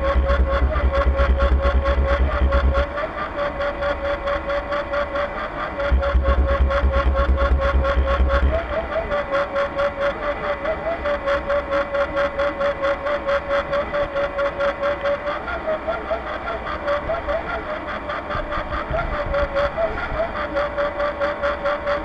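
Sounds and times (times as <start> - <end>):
model boat drive whirring: 0.0 - 22.0.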